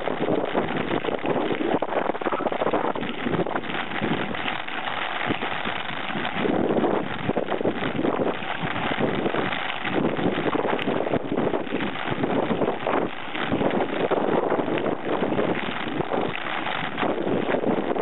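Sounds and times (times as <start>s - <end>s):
bike rattling over bumps: 0.0s - 18.0s
wind noise on microphone: 0.0s - 18.0s.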